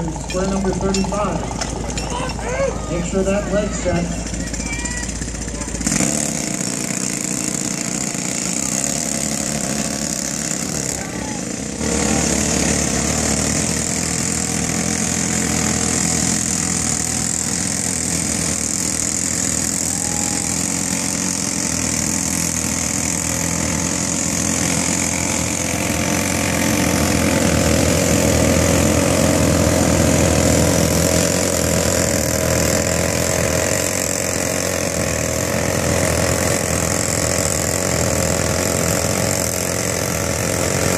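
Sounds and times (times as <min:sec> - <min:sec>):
pneumatic rock drill hammering: 0:00.0 - 0:40.9.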